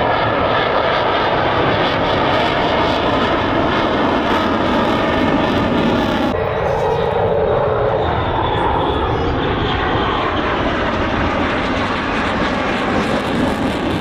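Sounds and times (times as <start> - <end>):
jet flying over: 0.0 - 14.0.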